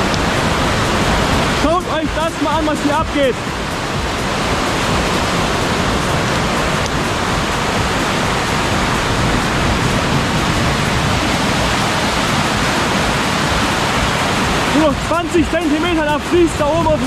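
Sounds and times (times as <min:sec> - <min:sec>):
brook whitewater rushing: 0:00.0 - 0:17.0.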